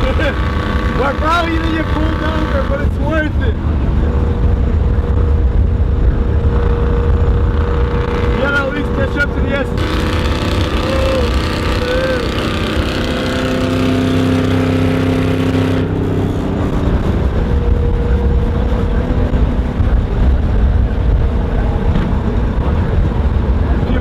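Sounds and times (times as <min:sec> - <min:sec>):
car engine droning: 0:00.0 - 0:24.0
road and wind rumble: 0:00.0 - 0:24.0.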